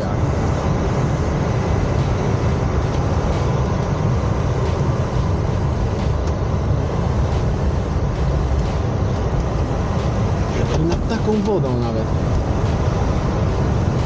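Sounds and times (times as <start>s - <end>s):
airflow rushing around cockpit: 0.0s - 14.0s.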